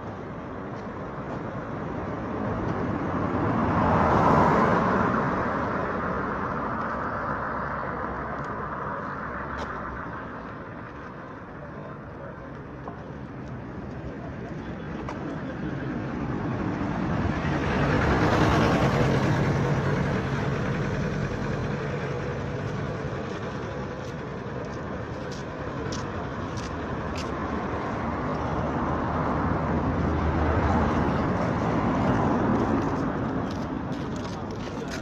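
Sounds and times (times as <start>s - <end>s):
vehicles passing on road: 0.0s - 35.0s.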